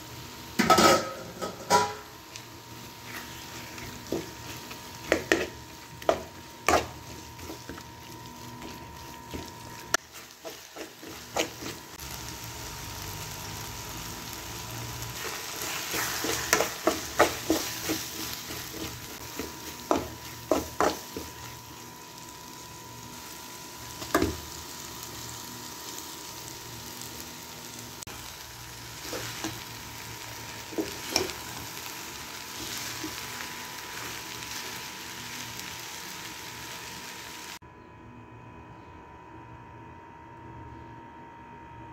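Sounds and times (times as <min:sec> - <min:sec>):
vegetables sizzling in a pan: 0:00.0 - 0:37.6.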